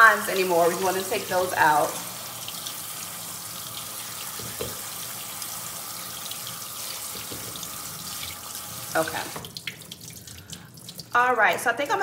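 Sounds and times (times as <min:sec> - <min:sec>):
faucet spraying water into sink: 0:00.0 - 0:11.7.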